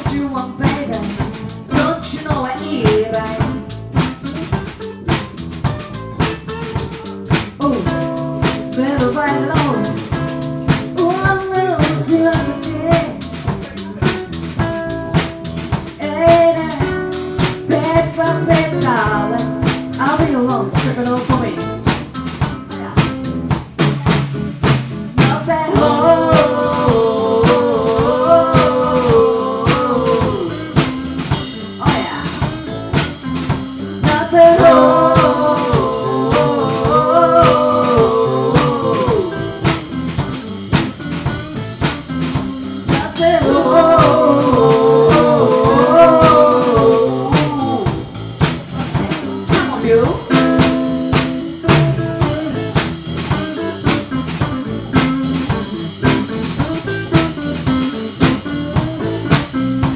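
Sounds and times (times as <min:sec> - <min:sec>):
drum kit beat: 0:00.0 - 0:59.9
live blues band playing: 0:00.0 - 0:59.9.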